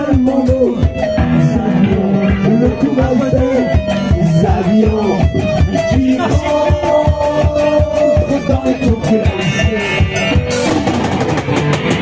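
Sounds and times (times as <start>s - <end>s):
bass guitar: 0.0s - 12.0s
driving drumbeat: 0.0s - 12.0s
electric guitar: 0.0s - 12.0s.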